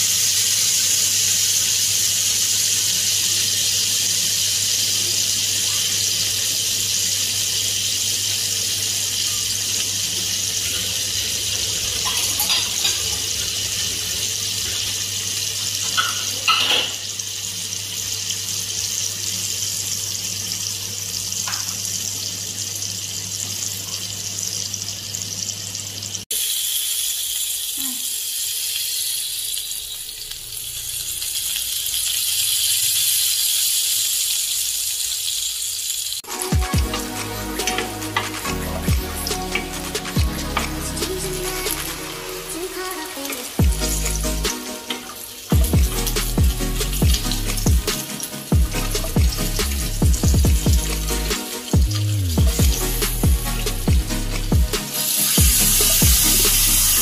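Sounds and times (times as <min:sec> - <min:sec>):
fish sizzling in a pan: 0:00.0 - 0:57.0.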